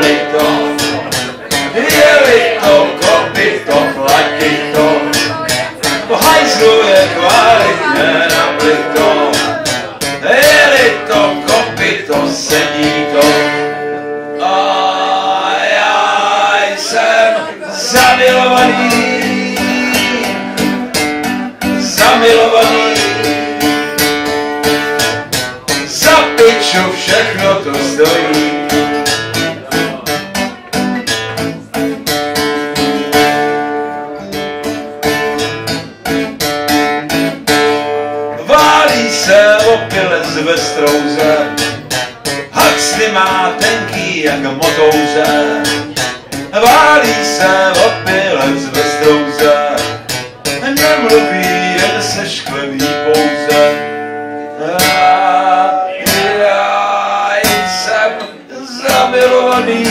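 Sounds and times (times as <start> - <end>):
man singing a waltz: 0.0 - 14.1, 15.8 - 25.0, 25.7 - 31.5, 38.3 - 59.9
strummed acoustic guitar: 0.0 - 59.9.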